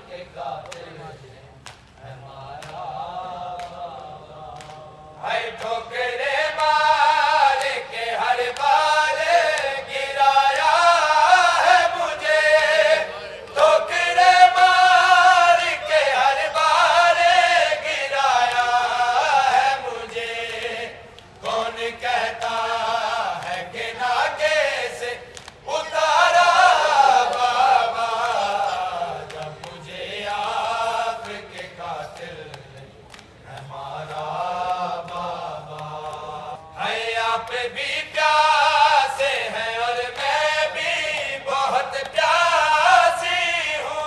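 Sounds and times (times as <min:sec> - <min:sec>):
men chanting a lament: 0:00.0 - 0:44.0.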